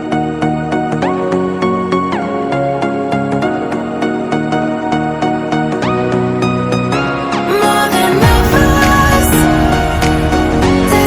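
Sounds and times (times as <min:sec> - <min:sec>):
instrumental pop music: 0:00.0 - 0:11.0.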